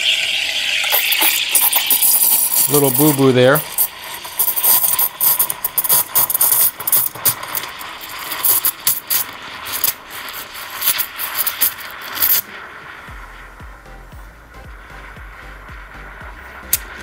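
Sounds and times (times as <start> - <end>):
frothing milk crackles: 0.0 - 17.0
steam wand hissing in milk: 0.0 - 17.0.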